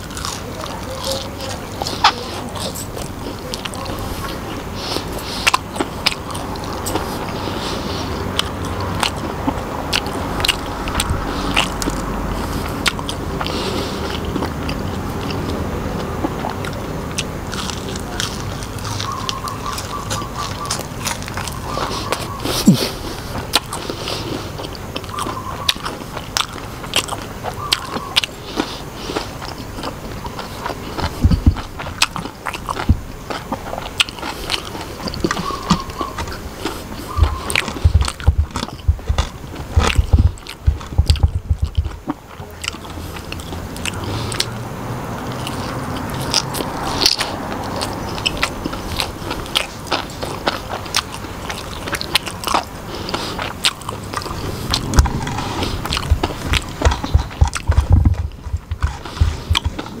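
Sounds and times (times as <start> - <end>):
person crunching fried mushrooms: 0.0 - 60.0.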